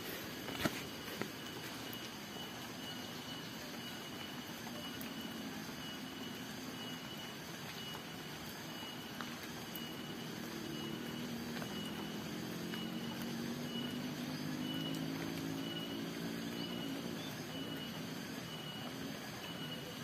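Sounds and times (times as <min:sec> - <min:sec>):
outdoor background noise: 0:00.0 - 0:20.0
faint high chirp: 0:01.4 - 0:20.0.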